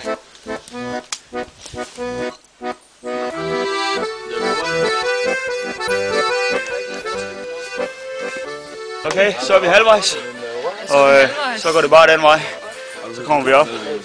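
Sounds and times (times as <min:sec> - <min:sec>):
instrumental music with held chords: 0:00.0 - 0:14.0.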